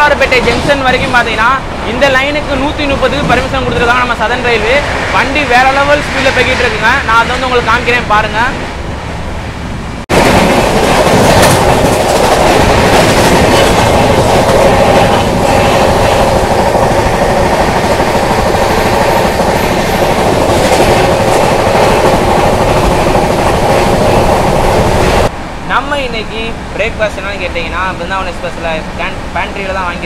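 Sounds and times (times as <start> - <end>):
train wheel and rail noise: 0.0 - 30.0.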